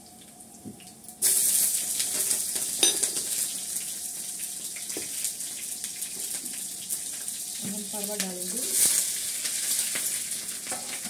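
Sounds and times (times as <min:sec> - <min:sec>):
chillies sizzling in hot oil: 0:01.1 - 0:11.0.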